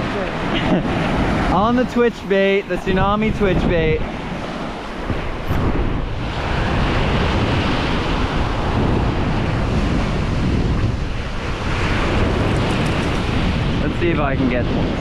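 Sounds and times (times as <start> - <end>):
surf waves breaking on beach: 0.0 - 15.0
wind buffeting microphone: 0.0 - 15.0.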